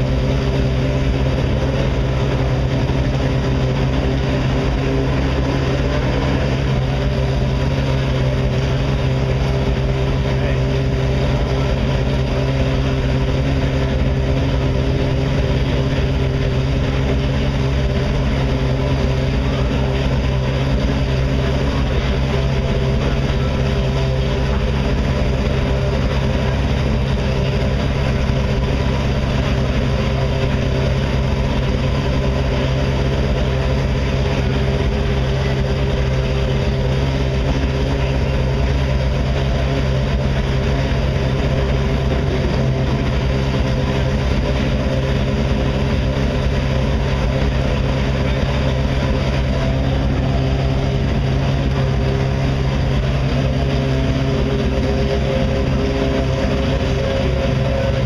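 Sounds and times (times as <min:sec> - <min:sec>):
race car engine idling: 0:00.0 - 0:58.0.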